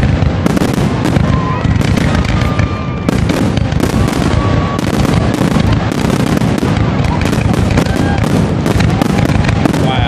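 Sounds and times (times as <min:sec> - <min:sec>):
fireworks launching and bursting: 0:00.0 - 0:10.0.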